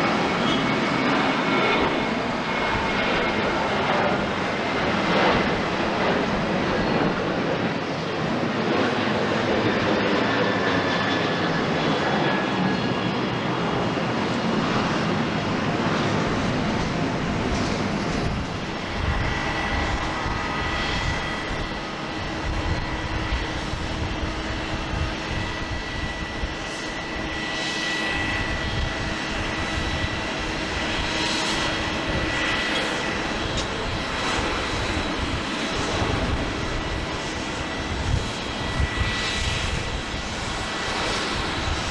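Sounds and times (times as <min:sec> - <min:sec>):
high engine whine: 0:00.0 - 0:41.9
jet engines running: 0:00.0 - 0:41.9.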